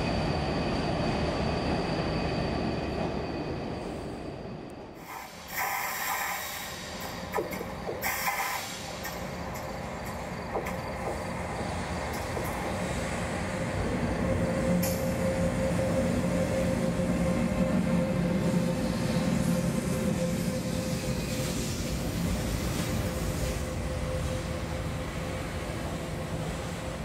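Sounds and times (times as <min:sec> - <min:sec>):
train passing: 0:00.0 - 0:27.0.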